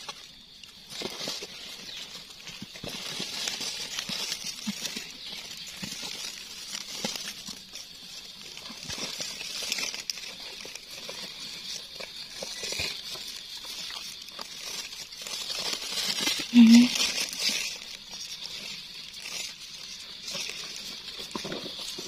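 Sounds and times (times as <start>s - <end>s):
dry leaves rustling and crackling: 0.0s - 22.0s.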